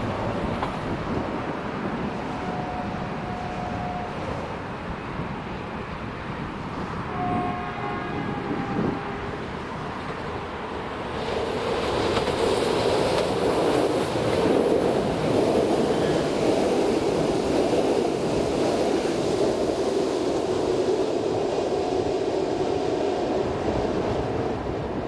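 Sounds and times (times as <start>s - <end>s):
train wheels rolling on rail: 0.0s - 25.0s.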